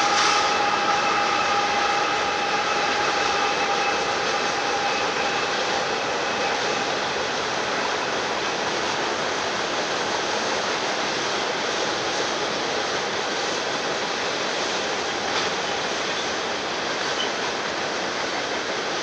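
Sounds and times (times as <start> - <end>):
freight train wheels on track: 0.0 - 19.0.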